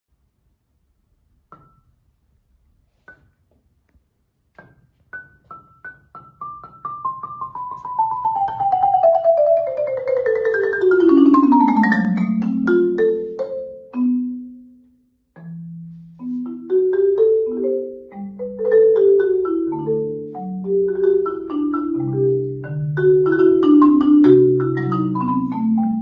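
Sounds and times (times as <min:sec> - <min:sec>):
marimba played with mallets: 0:01.5 - 0:02.0, 0:04.6 - 0:26.0.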